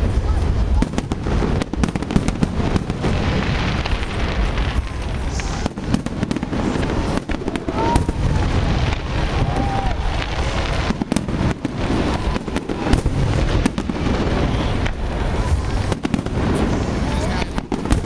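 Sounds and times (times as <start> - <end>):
fireworks bangs and booms: 0.0 - 18.0
fireworks crackling: 0.0 - 18.0.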